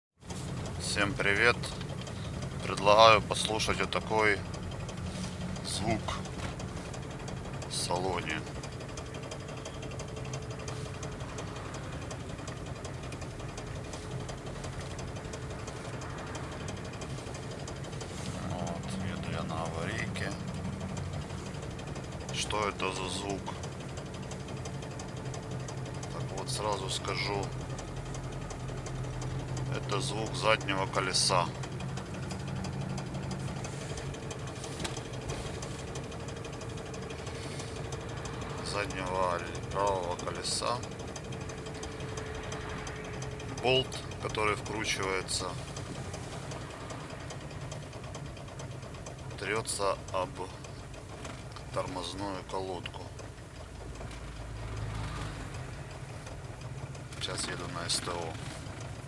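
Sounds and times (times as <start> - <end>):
car engine running: 0.2 - 59.0
road rumble: 0.2 - 59.0
wheel ticking and crackling: 0.2 - 59.0.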